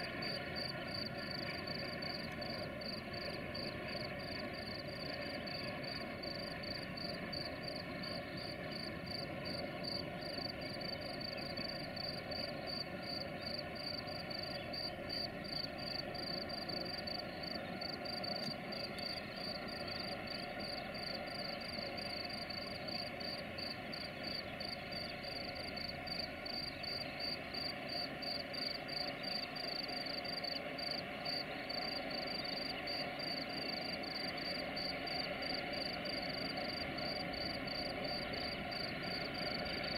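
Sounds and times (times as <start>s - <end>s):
crickets chirping: 0.0s - 39.9s
distant diesel locomotives rumbling: 0.0s - 39.9s.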